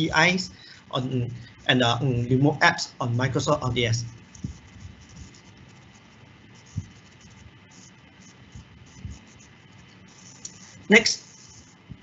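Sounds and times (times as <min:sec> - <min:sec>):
microphone hiss and hum: 0:00.0 - 0:12.0.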